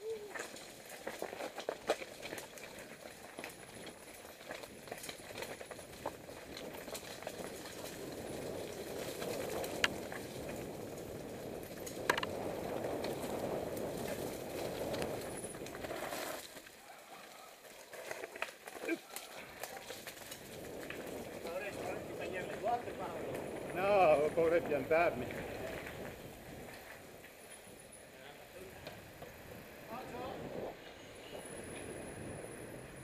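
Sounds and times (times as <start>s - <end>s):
bike tyres crunching over stones: 0.0s - 33.0s
bike clicks and rattles: 0.2s - 27.9s.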